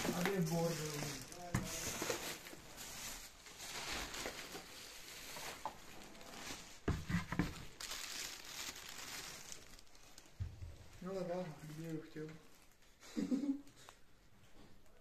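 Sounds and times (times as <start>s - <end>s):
rustling and crinkling of clutter: 0.0s - 15.0s.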